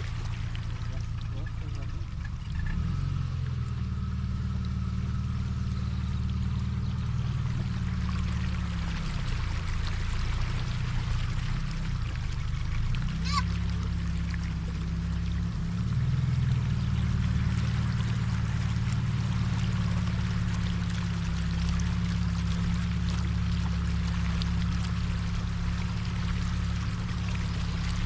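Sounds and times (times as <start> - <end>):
car engine running at low revs: 0.0 - 28.0
water splashing around tyre: 0.0 - 28.0.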